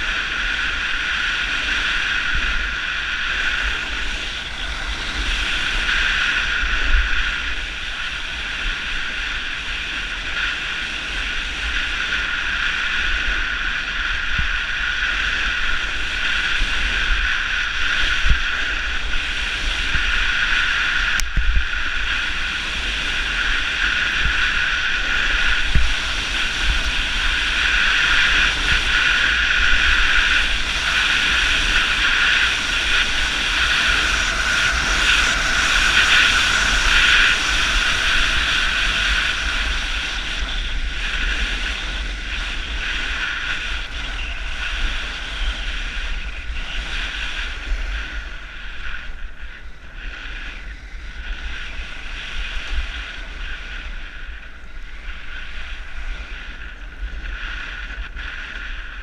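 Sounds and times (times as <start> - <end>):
snowboard scraping over snow: 0.0 - 59.0
wind buffeting microphone: 0.0 - 59.0.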